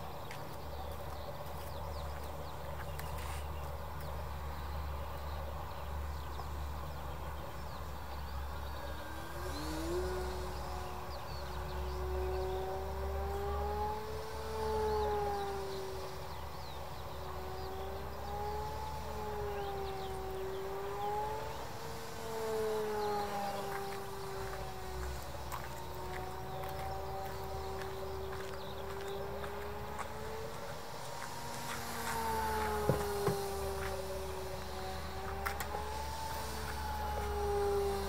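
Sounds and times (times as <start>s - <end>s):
steady low rumble: 0.0s - 38.0s
model airplane motor whining: 3.2s - 38.0s.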